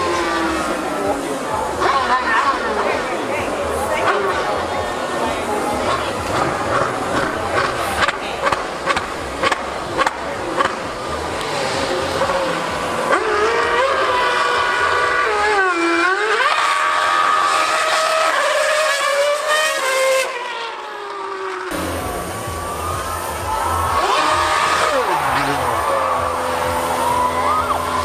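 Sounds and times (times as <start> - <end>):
racing engine revving: 0.0 - 28.0.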